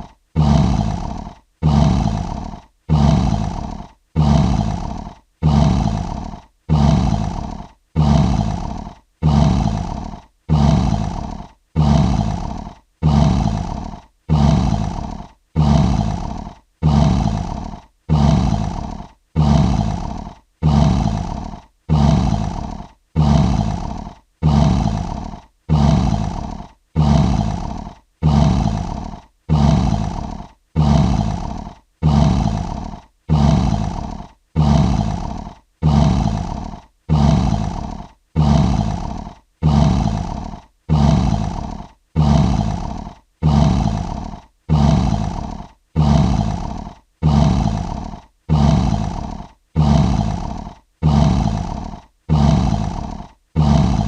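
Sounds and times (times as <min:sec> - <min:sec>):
lion roaring: 0:00.0 - 0:54.0.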